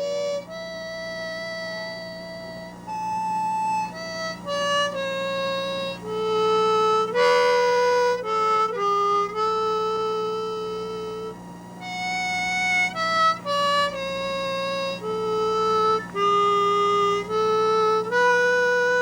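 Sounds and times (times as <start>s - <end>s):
steady low hum: 0.0s - 19.0s
wind instrument slow melody: 0.0s - 19.0s.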